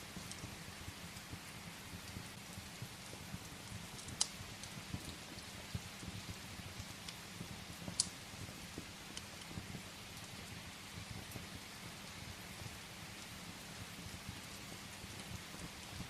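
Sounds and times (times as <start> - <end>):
rain pattering on a window: 0.0 - 16.0
sharp pops from fire: 0.0 - 16.0
wood fire crackling: 0.0 - 16.0.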